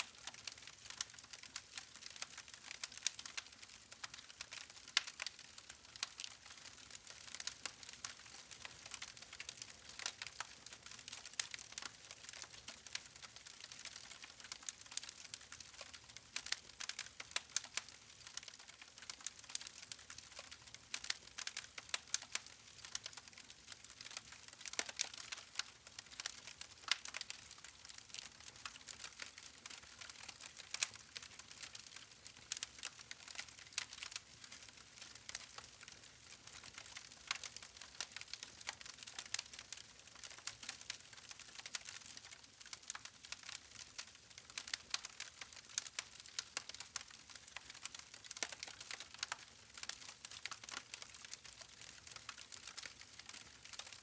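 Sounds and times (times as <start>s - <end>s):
faint steady hiss: 0.0s - 54.0s
campfire crackling and popping: 0.1s - 54.0s.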